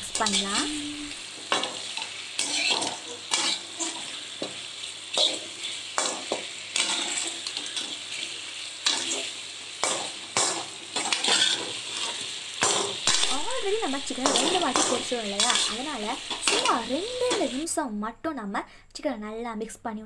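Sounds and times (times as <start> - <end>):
spatula scraping a pan: 0.0 - 13.4, 14.1 - 17.6
sauce sizzling: 0.0 - 17.8.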